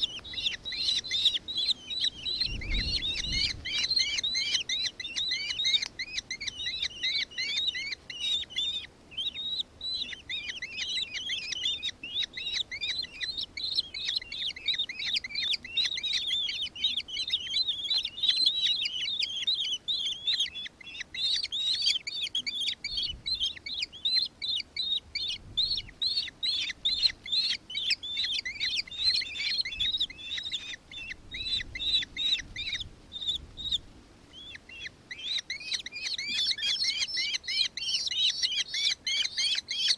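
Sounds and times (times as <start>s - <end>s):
kestrel shrill chattering call: 0.0s - 39.9s.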